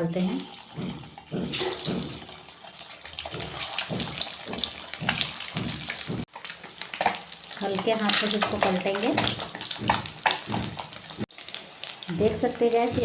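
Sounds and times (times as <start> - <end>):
eggs sizzling in hot oil: 0.0 - 13.0.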